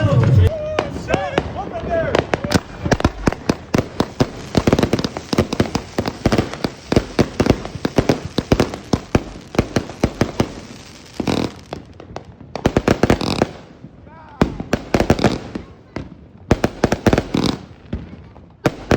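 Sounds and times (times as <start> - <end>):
fireworks crackling: 0.0 - 18.9.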